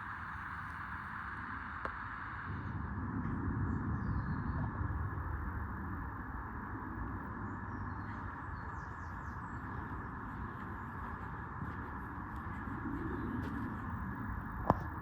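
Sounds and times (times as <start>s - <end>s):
low rumble and hiss of woodland: 0.0s - 15.0s.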